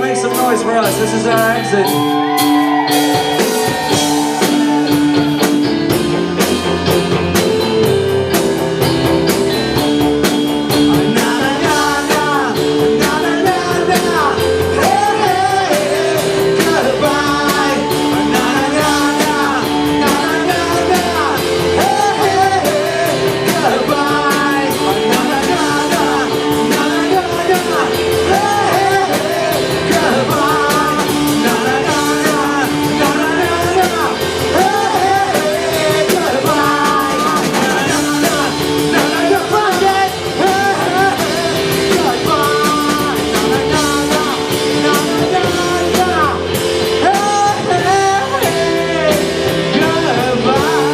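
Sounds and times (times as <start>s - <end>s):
person singing: 0.0s - 7.9s, 9.8s - 50.9s
rock band playing live: 0.0s - 50.9s.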